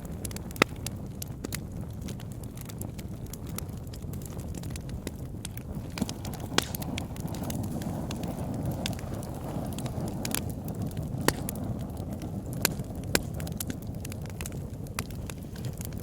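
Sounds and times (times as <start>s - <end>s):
fire crackling and popping: 0.0s - 16.0s
flames rushing: 0.0s - 16.0s.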